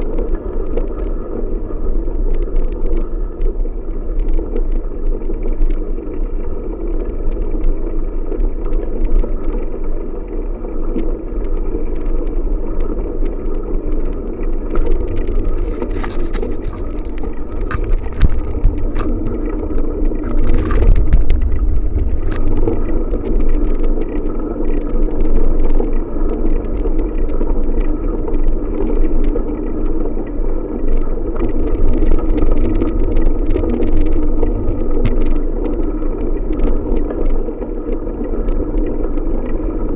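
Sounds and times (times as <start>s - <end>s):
small clicks and rattles: 0.0s - 39.9s
wind rumble on microphone: 0.0s - 39.9s.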